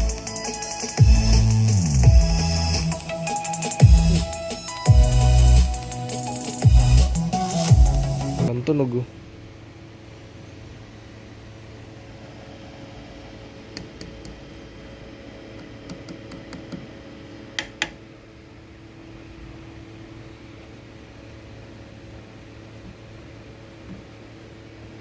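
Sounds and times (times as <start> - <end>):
amplifier hiss and hum: 0.0 - 25.0.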